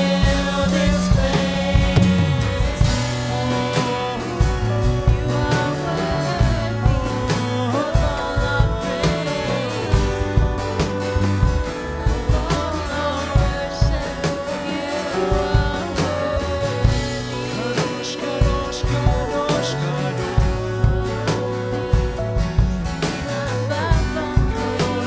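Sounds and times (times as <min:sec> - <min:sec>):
live band playing: 0:00.0 - 0:25.0
person singing: 0:00.0 - 0:25.0.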